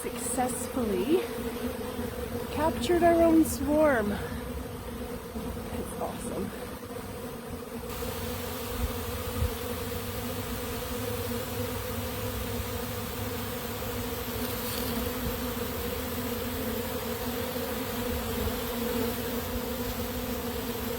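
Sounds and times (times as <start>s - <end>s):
bee swarm droning hum: 0.0s - 20.9s.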